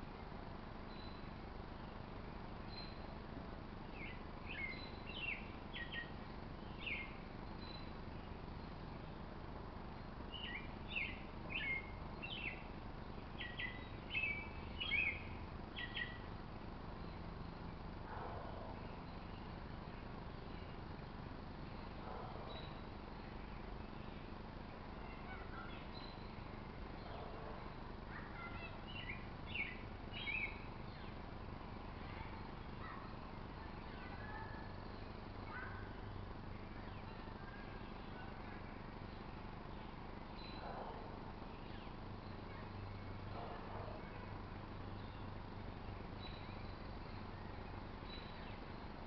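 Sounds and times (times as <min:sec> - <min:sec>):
faint outdoor background noise: 0:00.0 - 0:49.0
bird chirping: 0:00.9 - 0:03.2, 0:03.8 - 0:09.2, 0:10.2 - 0:16.3, 0:21.6 - 0:31.3, 0:32.0 - 0:49.0.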